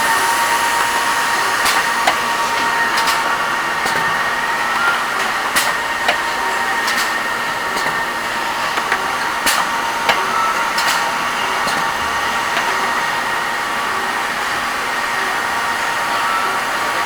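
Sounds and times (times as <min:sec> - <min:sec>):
pneumatic machine air hiss: 0:00.0 - 0:15.5.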